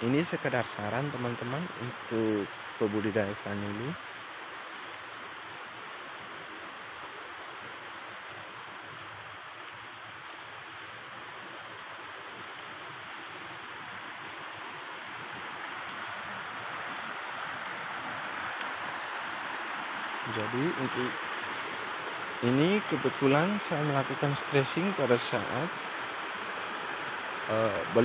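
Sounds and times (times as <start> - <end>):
rushing outdoor background noise: 0.0 - 28.0.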